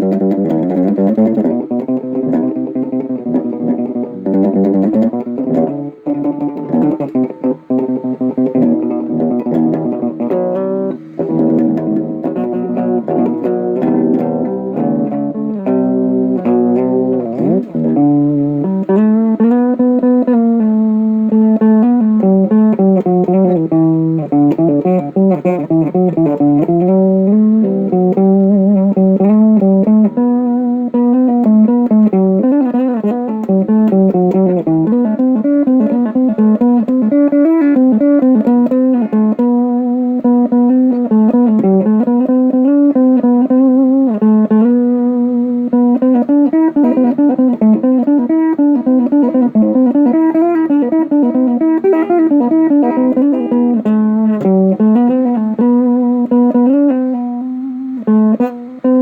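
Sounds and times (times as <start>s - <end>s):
guitar melody: 0.0s - 59.0s.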